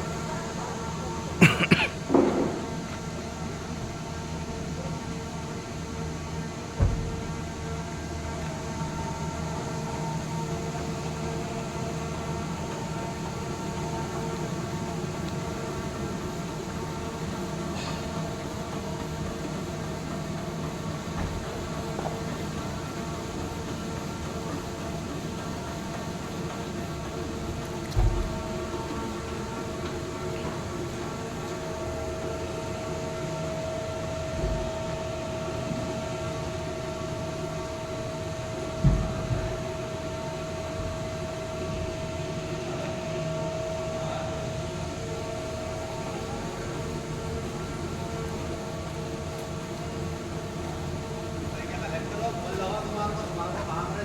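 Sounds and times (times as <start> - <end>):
conveyor belt humming: 0.0 - 54.0.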